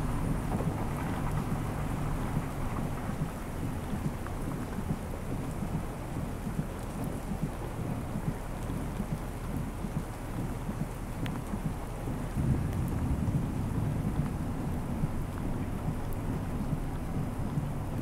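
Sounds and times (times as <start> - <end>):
low rumble: 0.0 - 18.0
rain on wet pavement: 0.0 - 18.0.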